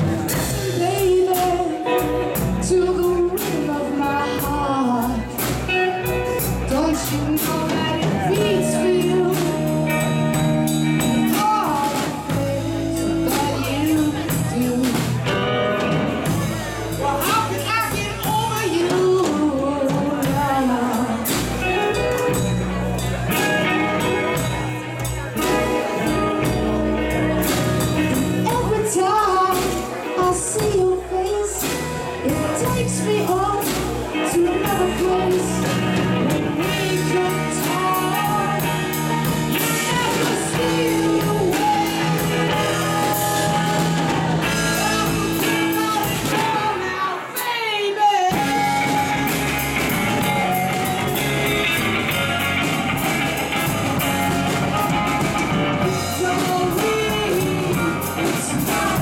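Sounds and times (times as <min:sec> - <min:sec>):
person singing: 0:00.0 - 0:22.4, 0:23.1 - 0:59.0
drum kit with cymbals: 0:00.0 - 0:59.0
electric guitars: 0:00.0 - 0:59.0.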